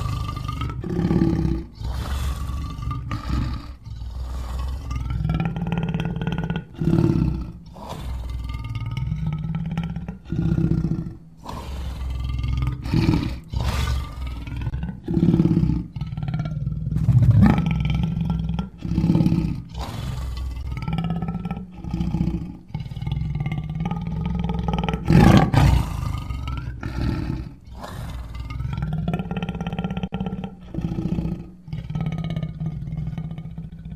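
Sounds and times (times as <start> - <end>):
big cat growls and roars: 0.0 - 33.9.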